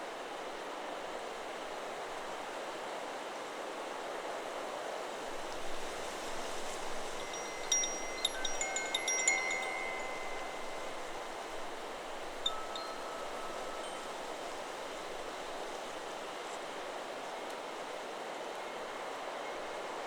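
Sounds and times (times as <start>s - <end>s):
wind through trees: 0.0s - 20.0s.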